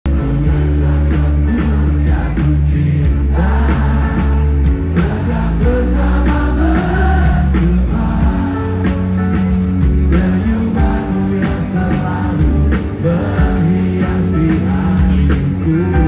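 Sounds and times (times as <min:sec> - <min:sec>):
live rock band: 0:00.1 - 0:16.0
person singing: 0:00.1 - 0:16.0.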